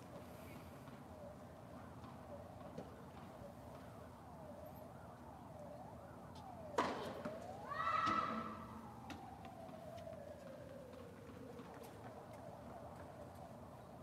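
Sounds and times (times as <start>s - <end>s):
siren yelping and wailing: 1.0s - 14.0s.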